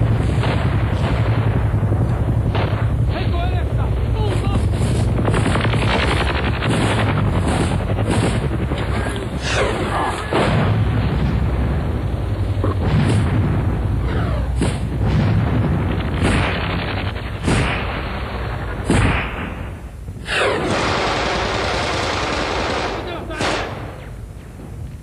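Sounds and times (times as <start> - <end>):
gunfire and booms: 0.0 - 24.8
low rumble: 0.0 - 25.0.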